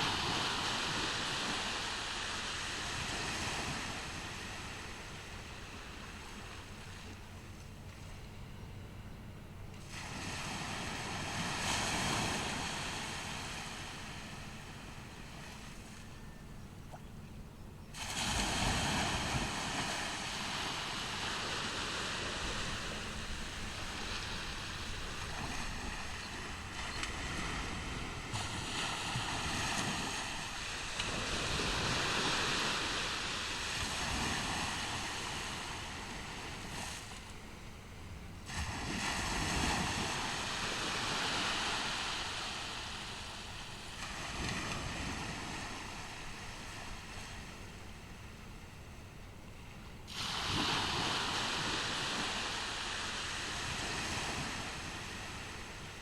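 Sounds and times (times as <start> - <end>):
waves breaking on sandy beach: 0.0 - 8.5, 9.7 - 17.2, 17.9 - 56.0.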